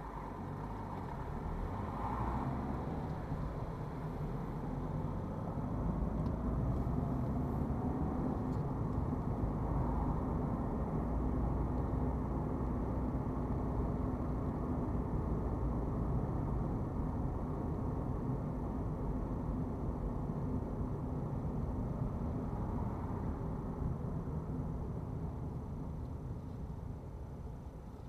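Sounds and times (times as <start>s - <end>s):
car engine and tyres droning: 0.0s - 28.0s.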